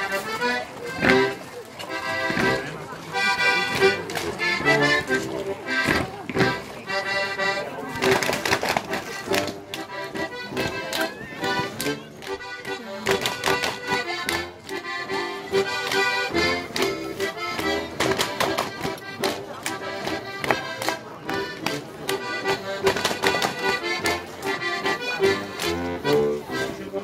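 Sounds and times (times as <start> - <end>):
accordion dance tune: 0.0 - 27.0.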